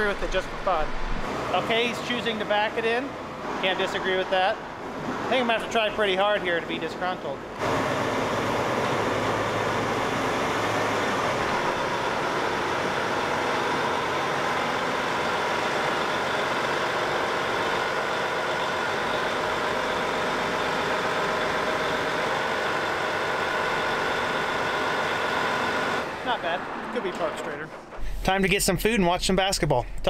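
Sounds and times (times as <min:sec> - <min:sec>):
tractor diesel engine running: 0:05.5 - 0:30.0.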